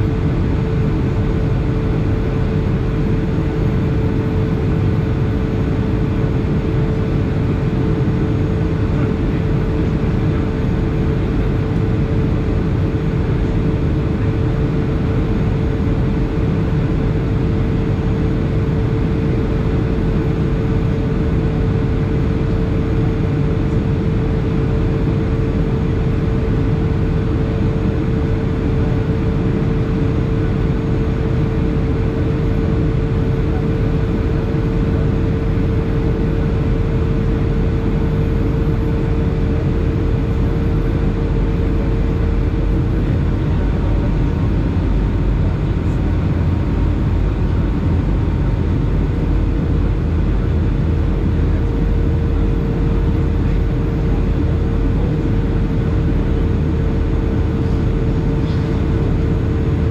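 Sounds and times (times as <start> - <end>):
jet engine and airflow rush: 0.0 - 59.9.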